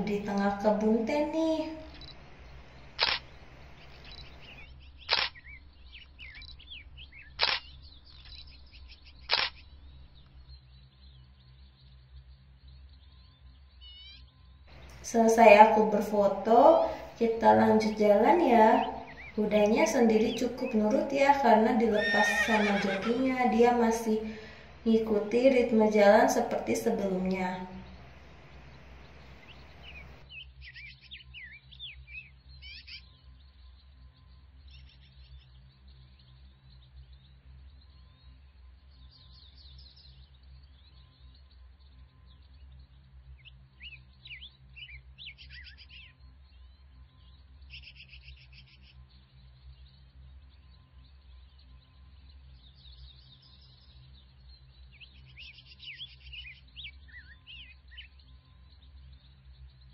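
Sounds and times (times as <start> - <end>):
birds chirping and calling: 0.0 - 59.9
low steady hum: 0.0 - 59.9.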